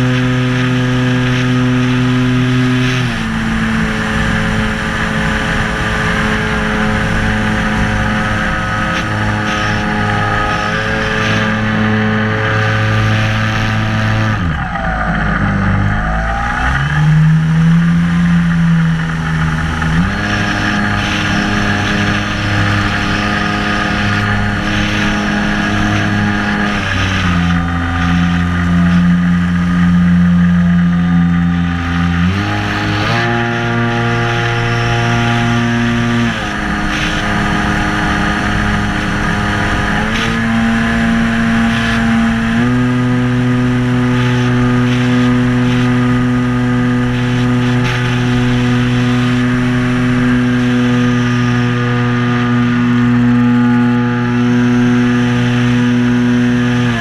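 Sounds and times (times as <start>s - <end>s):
rushing wind: 0.0s - 57.0s.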